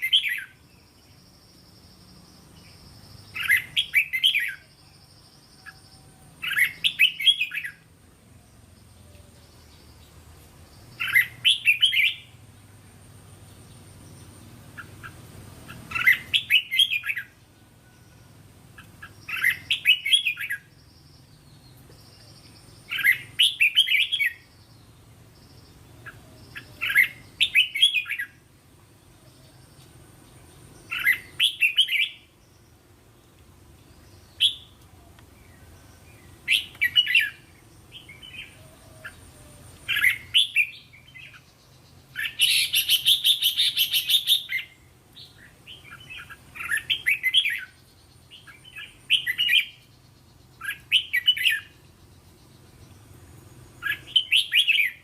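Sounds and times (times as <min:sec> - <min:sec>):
bird chirping song: 0:00.0 - 0:55.0.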